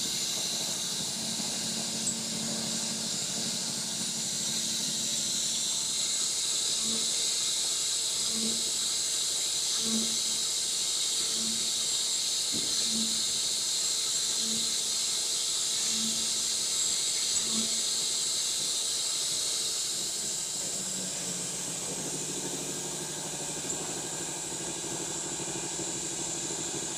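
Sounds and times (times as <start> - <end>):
router spindle whine: 0.0 - 26.9.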